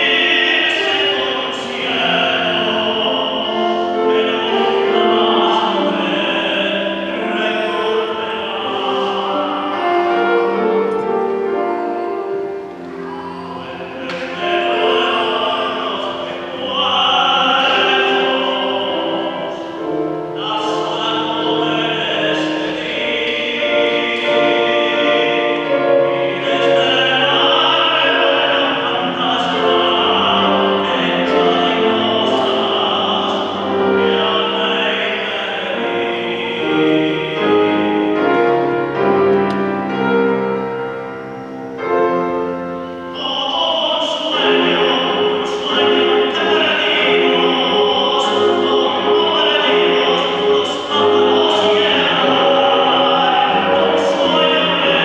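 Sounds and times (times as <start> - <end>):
piano accompaniment: 0.0 - 55.0
tenor singing: 0.0 - 55.0.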